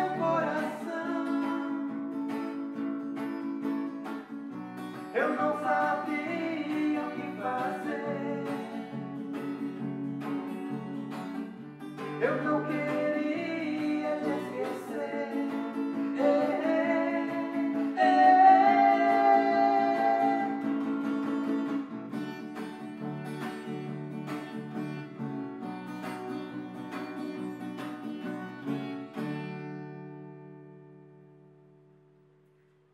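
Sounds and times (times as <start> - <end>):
steel-string acoustic guitar: 0.0 - 32.9.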